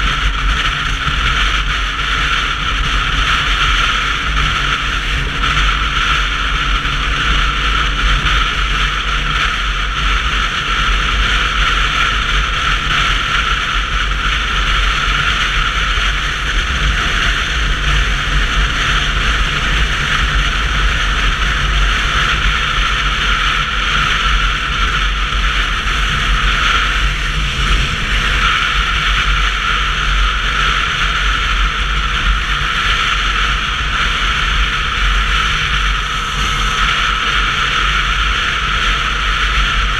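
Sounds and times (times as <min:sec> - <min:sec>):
motorcycle road noise rumble: 0:00.0 - 0:39.9
wind noise: 0:00.0 - 0:39.9.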